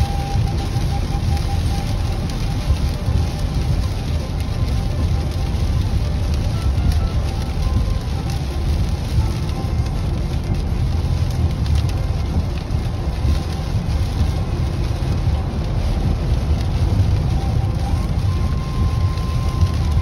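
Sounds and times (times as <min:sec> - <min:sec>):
car road rumble: 0:00.0 - 0:20.0
rain spattering on windshield: 0:00.0 - 0:20.0.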